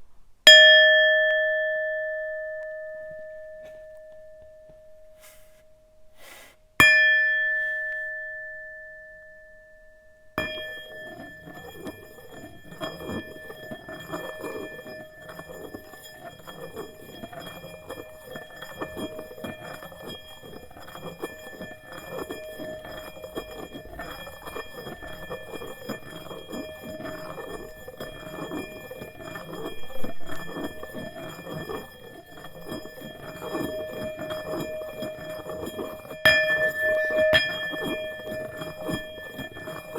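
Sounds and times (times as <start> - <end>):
singing bowl ringing: 0.5 - 6.1, 6.8 - 39.9
mallet rubbing bowl rim: 2.0 - 9.3, 10.0 - 39.9.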